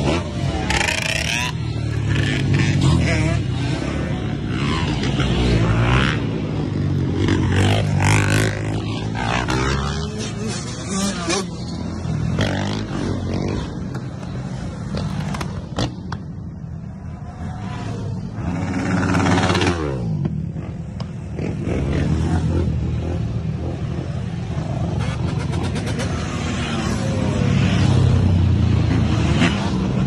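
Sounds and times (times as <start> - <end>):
dirt bike engines revving past: 0.0 - 30.0.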